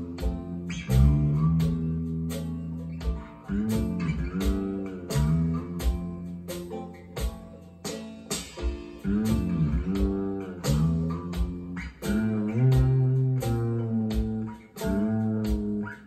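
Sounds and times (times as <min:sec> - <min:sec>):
guitar music over speakers: 0:00.0 - 0:16.0.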